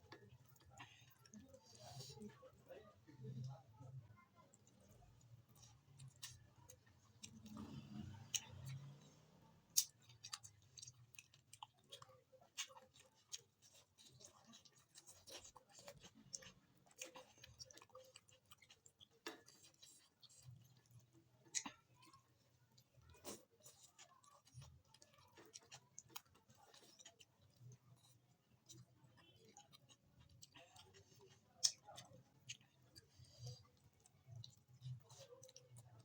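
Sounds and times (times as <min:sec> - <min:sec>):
chewing with wet mouth clicks: 0:00.0 - 0:02.4, 0:04.5 - 0:36.0.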